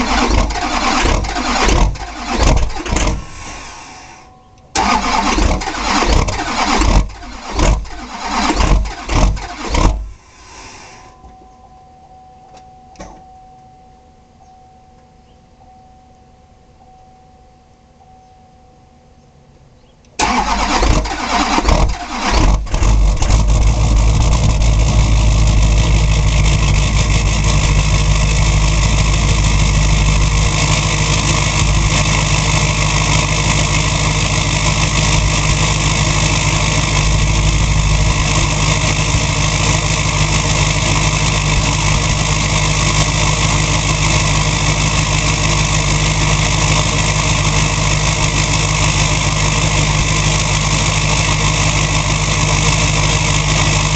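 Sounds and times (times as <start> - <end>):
starter cranking engine: 0.0 - 3.8, 4.7 - 10.8, 20.2 - 53.9
diesel engine idling loudly: 0.0 - 10.8, 20.2 - 53.9.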